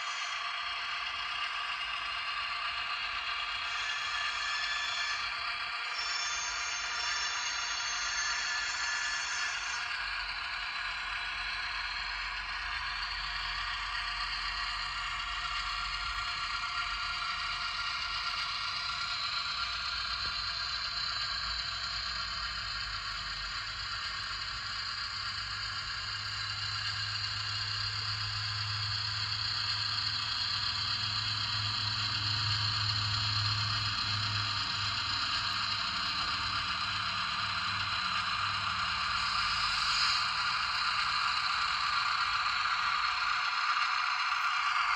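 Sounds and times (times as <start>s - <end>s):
model train running on rails: 0.0s - 44.9s.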